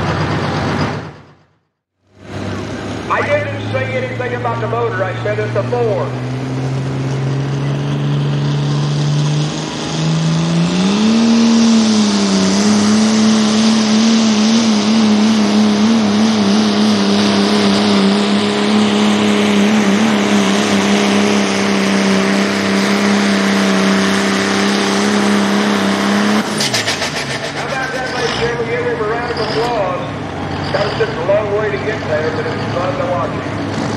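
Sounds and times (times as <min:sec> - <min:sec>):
diesel engine at full throttle: 0:00.0 - 0:33.9.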